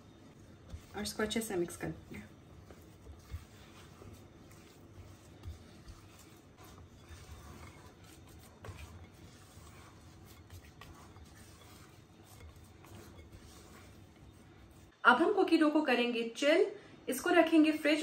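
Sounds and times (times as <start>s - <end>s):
spatula scraping dough in glass bowl: 0.0s - 15.0s.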